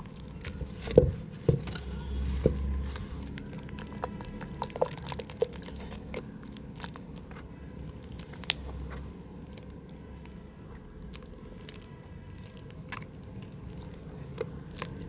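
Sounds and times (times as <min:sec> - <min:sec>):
mud crackling in a pot: 0:00.0 - 0:15.0.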